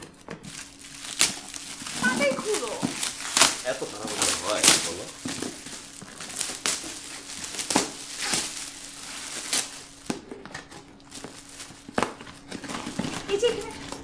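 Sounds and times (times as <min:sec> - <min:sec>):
wrapping paper crinkling: 0:00.0 - 0:14.0.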